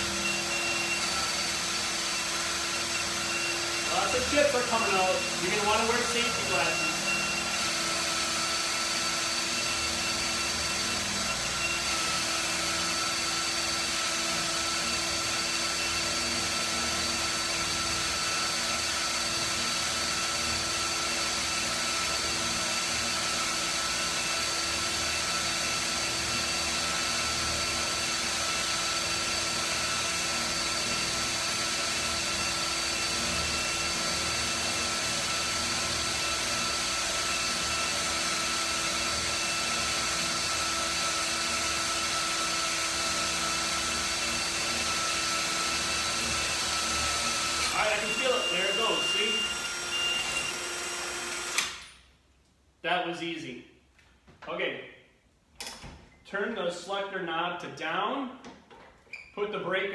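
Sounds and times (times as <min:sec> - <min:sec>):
power drill cutting steel: 0:00.0 - 0:52.0.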